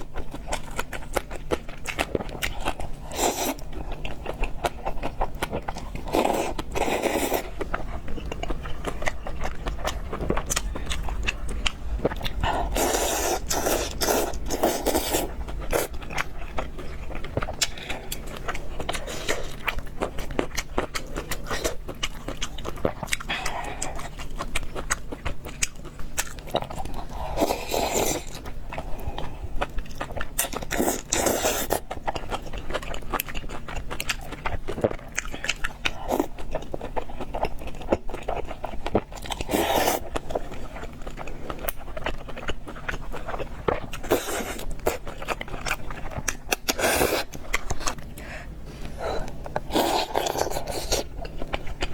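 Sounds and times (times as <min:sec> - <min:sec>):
chewing and biting: 0:00.0 - 0:51.9.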